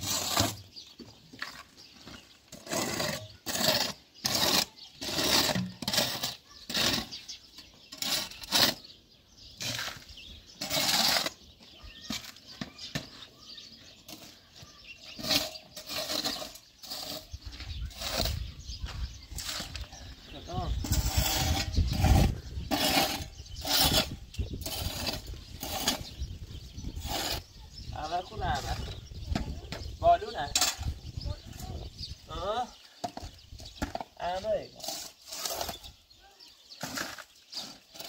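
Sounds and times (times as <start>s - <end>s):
trowel scraping mortar in bucket: 0.0s - 29.8s, 33.0s - 38.0s.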